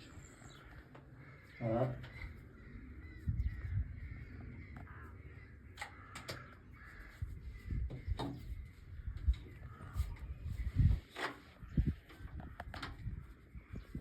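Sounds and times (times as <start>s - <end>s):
harsh crow-like bird calls: 0.0s - 14.0s.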